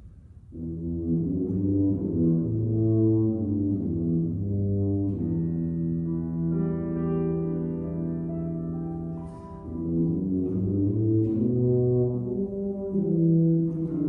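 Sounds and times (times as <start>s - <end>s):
grand piano: 0.0s - 14.0s
tuba low notes: 0.0s - 14.0s.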